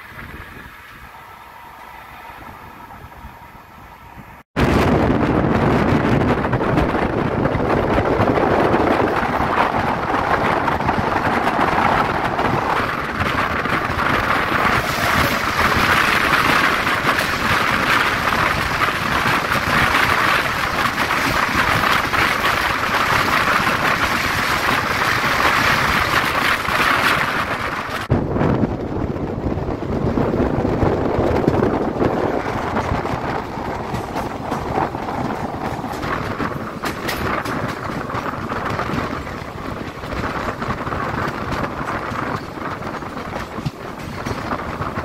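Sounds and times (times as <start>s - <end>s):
train rushing noise: 0.0s - 45.0s
wind buffeting microphone: 0.0s - 45.0s.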